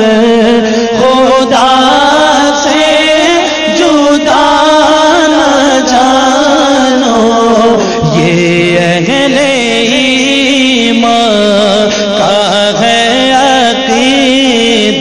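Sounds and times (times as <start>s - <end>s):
man singing melismatic lines: 0.0s - 15.0s.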